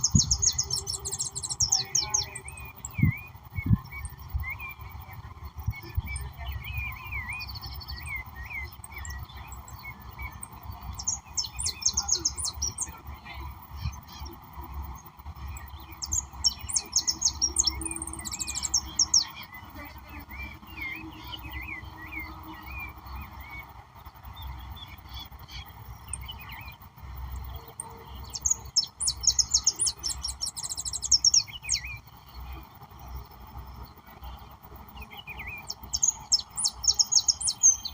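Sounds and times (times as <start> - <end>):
birds chirping trills: 0.0 - 37.9
soft warbled bird notes: 0.0 - 37.9.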